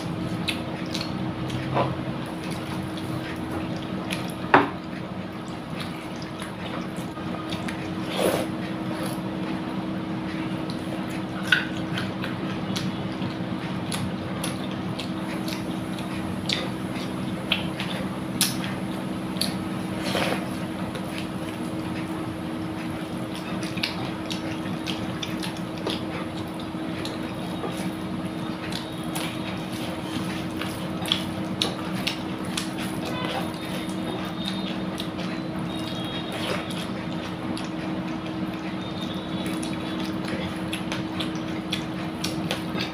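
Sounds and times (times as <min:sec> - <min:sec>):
steady low hum: 0:00.0 - 0:42.9
wet chewing and mouth smacks: 0:00.0 - 0:42.9.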